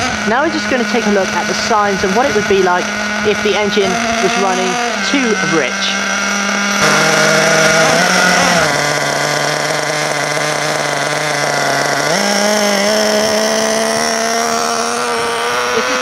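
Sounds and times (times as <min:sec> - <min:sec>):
model car nitro engine running: 0:00.0 - 0:16.0.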